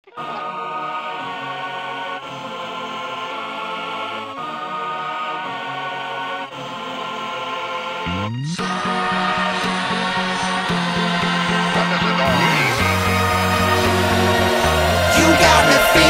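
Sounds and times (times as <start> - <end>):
music of sustained chords: 0.2 - 16.0.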